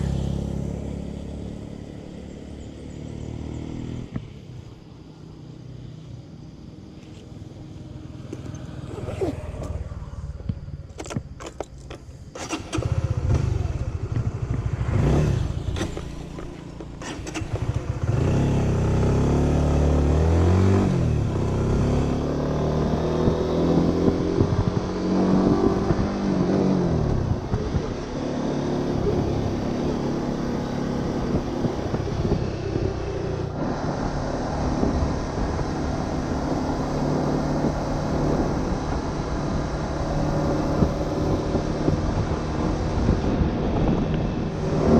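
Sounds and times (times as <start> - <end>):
motorcycle engine revving: 0.0 - 4.4, 12.3 - 44.9.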